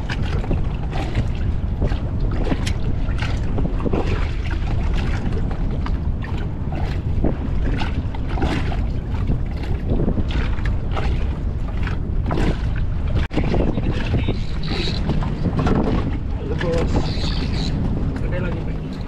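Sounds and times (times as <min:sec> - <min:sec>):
waves slapping against boat hull: 0:00.0 - 0:19.0
wind buffeting microphone: 0:00.0 - 0:19.0.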